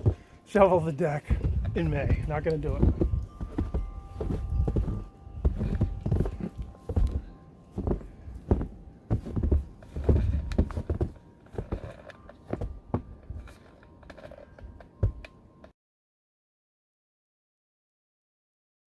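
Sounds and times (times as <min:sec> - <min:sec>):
footsteps on snowy wooden deck: 0:00.0 - 0:15.6.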